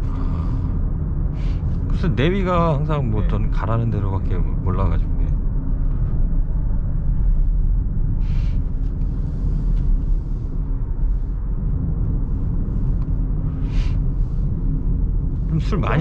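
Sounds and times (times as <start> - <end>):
faint steady hum: 0.0 - 16.0
road and engine rumble: 0.0 - 16.0.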